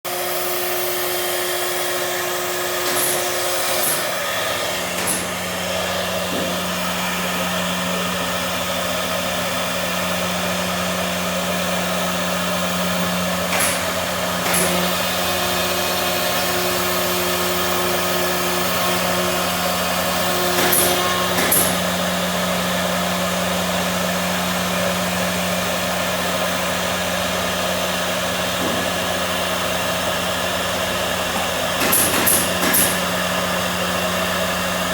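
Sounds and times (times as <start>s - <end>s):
machine motor humming: 0.4s - 34.9s.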